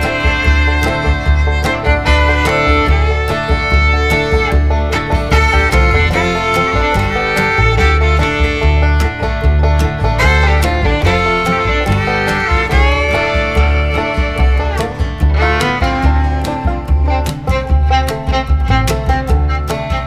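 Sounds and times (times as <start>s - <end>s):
upbeat instrumental music: 0.0s - 20.0s.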